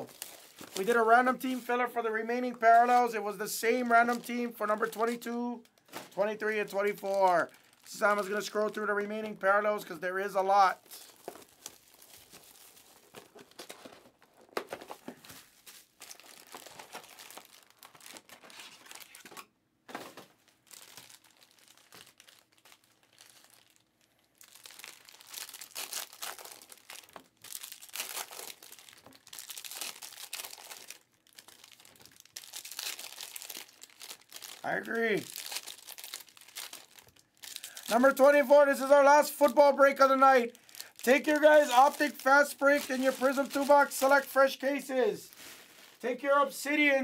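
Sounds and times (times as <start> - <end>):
foil wrappers crinkling: 0.0 - 47.0.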